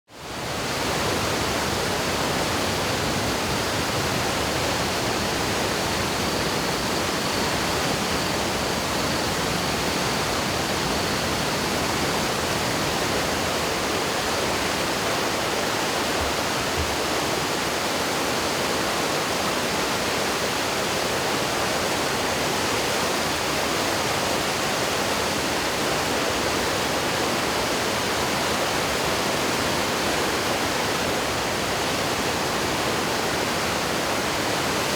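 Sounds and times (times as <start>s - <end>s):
flooded river rushing: 0.2s - 34.9s.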